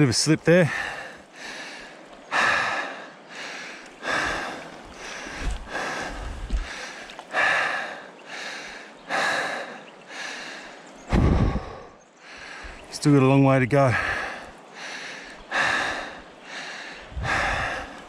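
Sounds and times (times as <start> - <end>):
man breathing hard: 0.7 - 12.8, 13.9 - 18.0.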